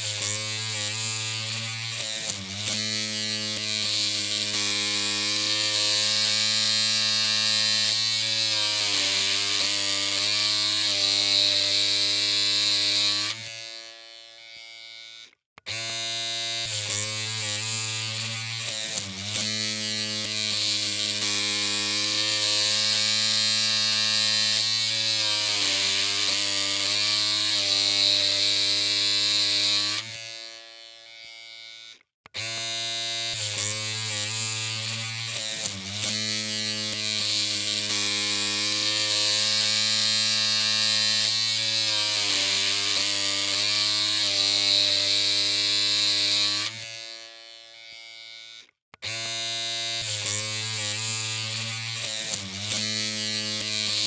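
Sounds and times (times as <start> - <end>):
electric hair clippers buzzing: 0.0 - 54.0.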